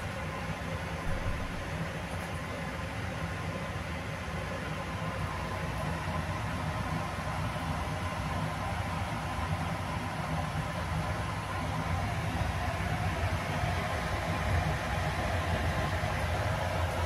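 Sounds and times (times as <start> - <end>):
kitchen appliances humming and hissing: 0.0 - 17.0.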